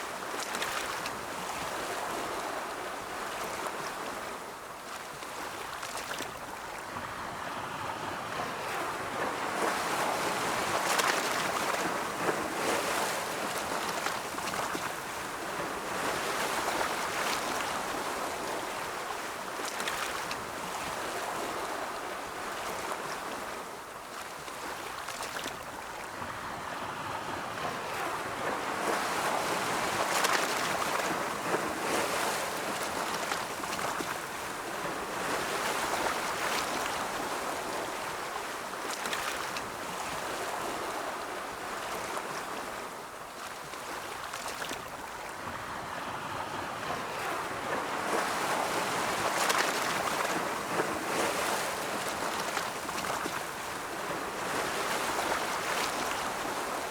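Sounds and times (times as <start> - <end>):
ocean waves on shore: 0.0 - 56.9.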